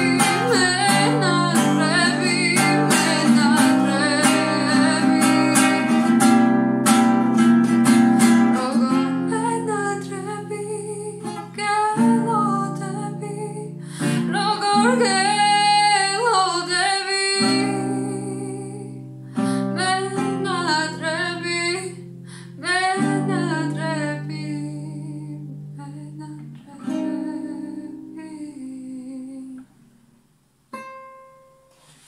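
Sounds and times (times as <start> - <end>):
woman singing: 0.0 - 6.6, 7.8 - 29.8
acoustic guitar strummed chords: 0.0 - 28.2.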